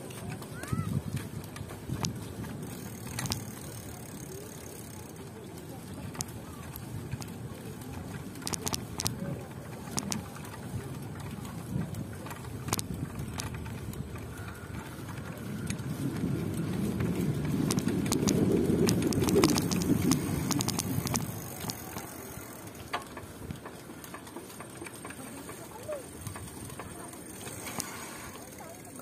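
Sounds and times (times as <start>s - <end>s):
small clicks and rattles: 0.0s - 29.0s
wind and rolling tyres rumble: 0.0s - 29.0s.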